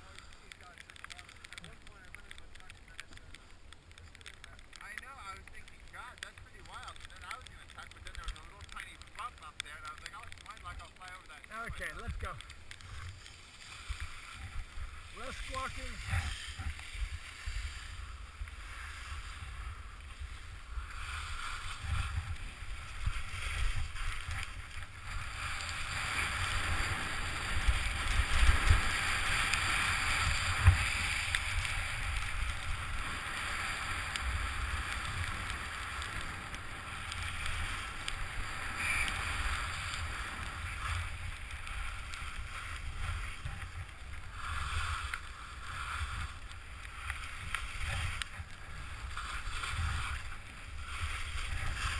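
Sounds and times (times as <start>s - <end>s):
skis scraping over packed snow: 0.0s - 51.9s.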